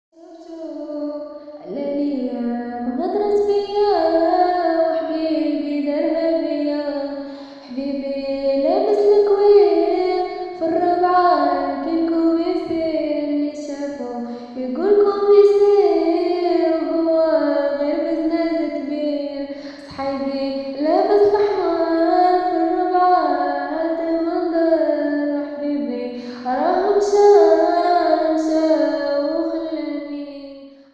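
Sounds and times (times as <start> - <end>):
girl singing: 0.2 - 30.6.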